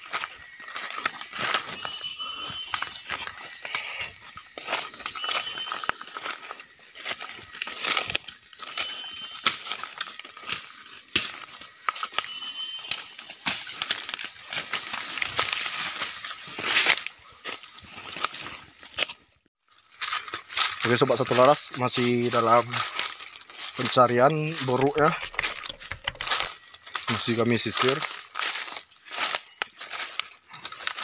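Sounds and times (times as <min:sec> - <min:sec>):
footsteps crunching through dry leaves: 0:00.0 - 0:31.0.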